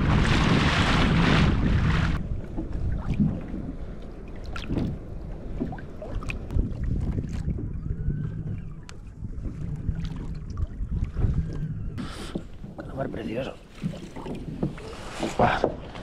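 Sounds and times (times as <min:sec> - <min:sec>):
kayak rumbling on water: 0:00.0 - 0:16.0
wind buffeting microphone: 0:00.0 - 0:16.0.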